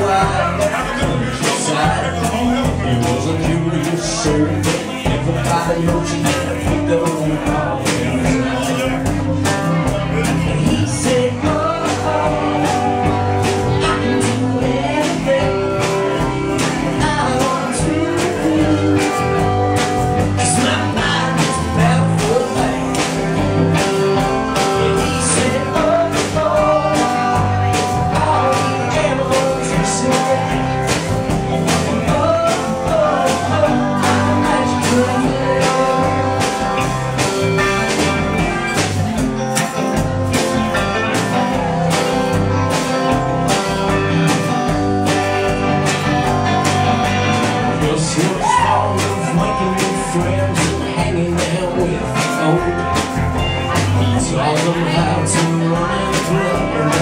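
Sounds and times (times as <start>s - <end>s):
live band playing indie rock: 0.0s - 57.0s.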